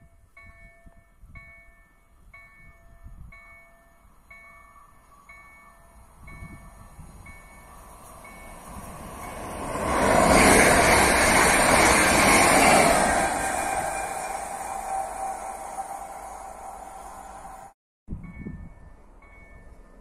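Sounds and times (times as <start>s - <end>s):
electric train passing at speed: 0.2s - 20.0s.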